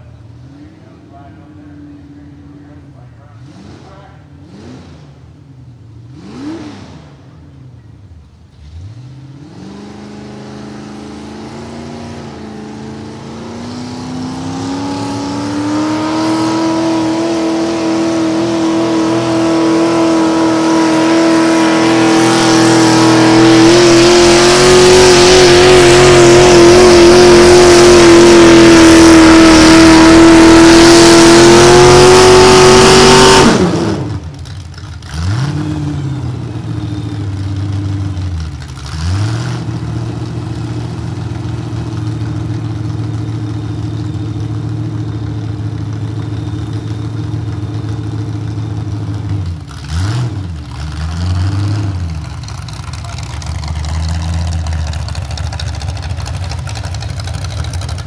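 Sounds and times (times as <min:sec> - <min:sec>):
engine idling with revs: 0:00.0 - 0:58.0
tractor engine at full throttle: 0:00.0 - 0:58.0.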